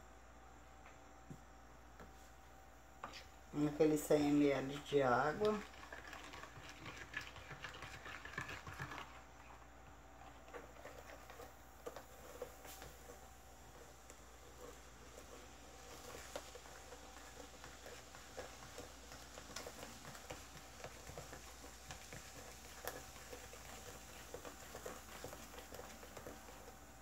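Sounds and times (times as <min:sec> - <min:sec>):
spoon stirring in plastic cup: 0:03.0 - 0:27.0.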